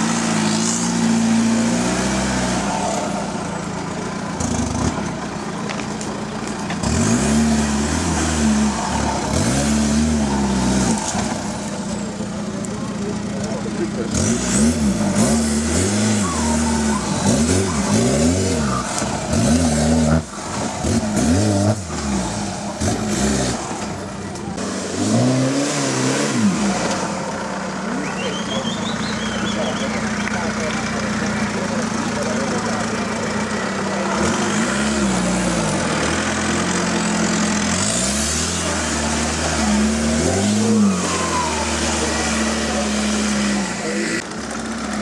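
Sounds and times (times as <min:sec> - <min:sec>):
buggy engine revving: 0:00.0 - 0:45.0.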